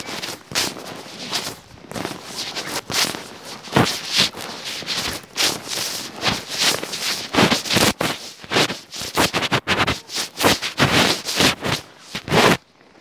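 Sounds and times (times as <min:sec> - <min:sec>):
footsteps crunching in snow: 0:00.0 - 0:12.6.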